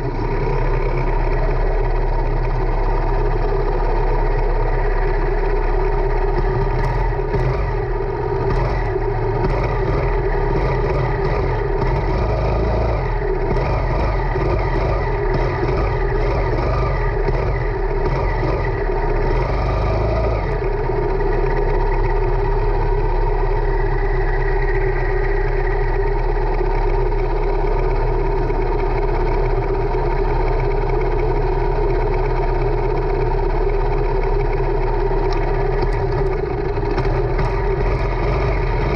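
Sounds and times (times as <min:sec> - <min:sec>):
go-kart engine idling: 0:00.0 - 0:38.9.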